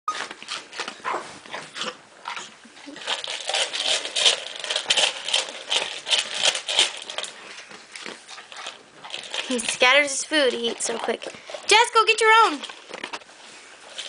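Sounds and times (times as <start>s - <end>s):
dog crunching kibble: 0.1s - 14.0s.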